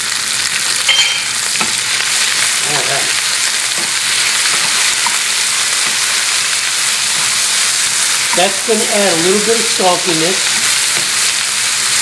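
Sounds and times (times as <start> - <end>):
peppers sizzling in hot oil: 0.0 - 12.0.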